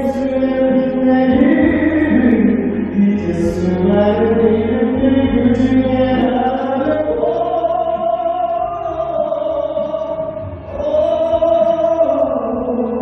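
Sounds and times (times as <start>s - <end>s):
man singing pop ballad: 0.0s - 13.0s.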